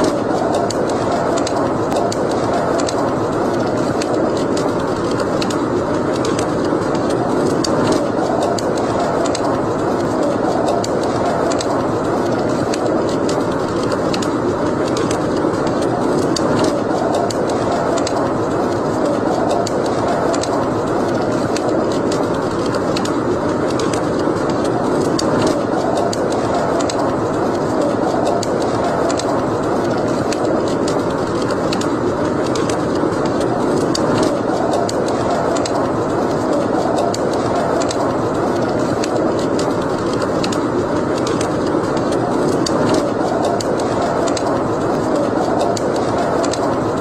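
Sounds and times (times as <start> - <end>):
fire crackling and popping: 0.0 - 47.0
fire rushing: 0.0 - 47.0.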